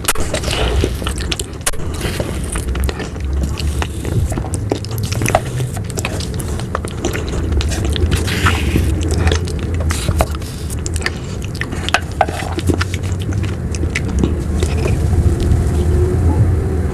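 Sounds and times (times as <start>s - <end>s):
mouth clicks and smacks eating: 0.0s - 16.2s
steady low hum: 0.0s - 16.9s.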